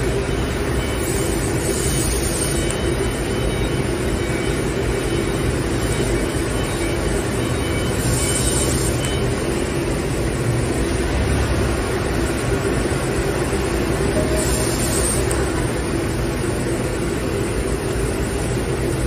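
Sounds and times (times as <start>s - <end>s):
machinery hum and rumble: 0.0s - 19.0s.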